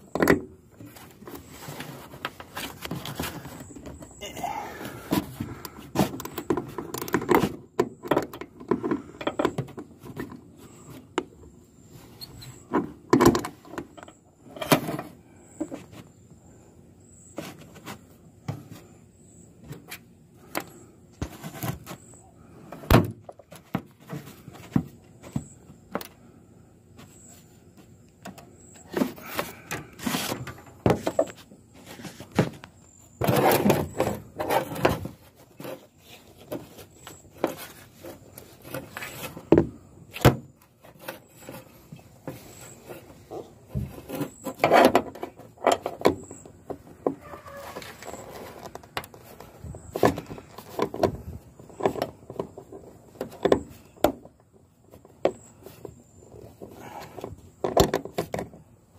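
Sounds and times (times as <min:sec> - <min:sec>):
knocks and scrapes of tools: 0:00.0 - 0:16.2, 0:26.9 - 0:58.6.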